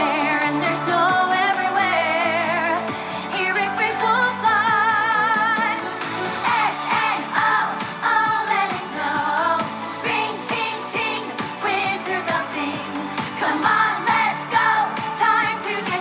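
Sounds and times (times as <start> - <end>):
pop song with singing: 0.0 - 16.0.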